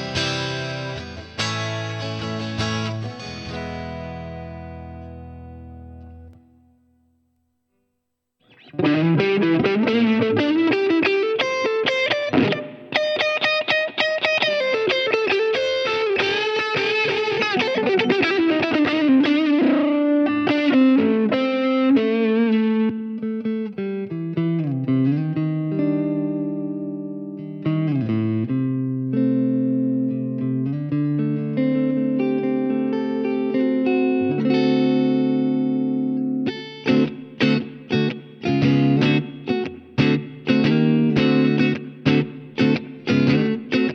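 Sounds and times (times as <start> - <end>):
electric guitar playing: 0.0 - 6.9, 8.4 - 43.9.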